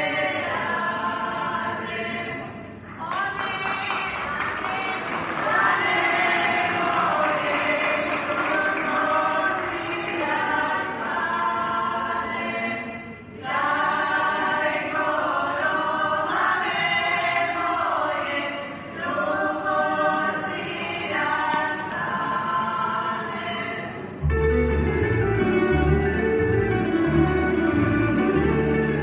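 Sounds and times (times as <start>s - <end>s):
unaccompanied folk singing: 0.0s - 24.2s.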